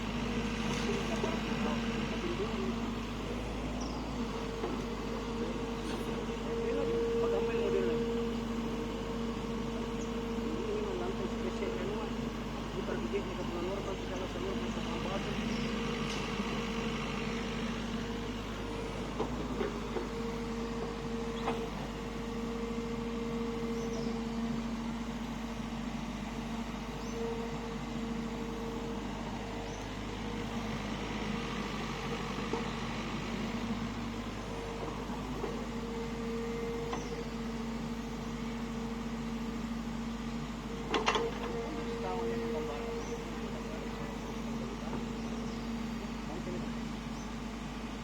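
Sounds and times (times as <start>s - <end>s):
excavator diesel engine droning: 0.0s - 48.0s.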